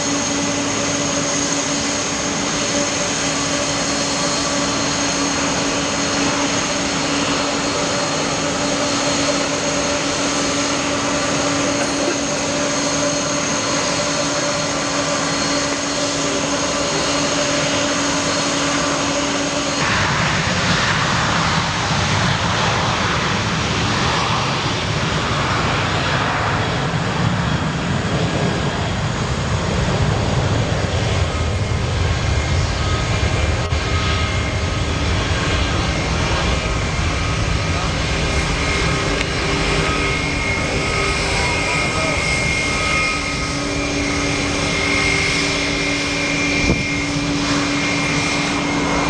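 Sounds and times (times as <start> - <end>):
jet engines whining: 0.0 - 49.0
rough jet rumble: 0.0 - 49.0.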